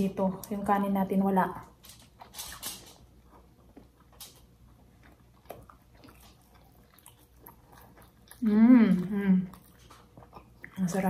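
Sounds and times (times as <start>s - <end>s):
faint chewing: 1.6s - 11.0s.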